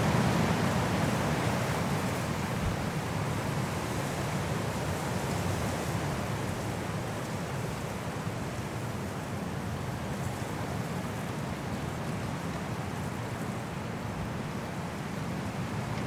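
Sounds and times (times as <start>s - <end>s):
high wind rushing through trees: 0.0s - 16.0s.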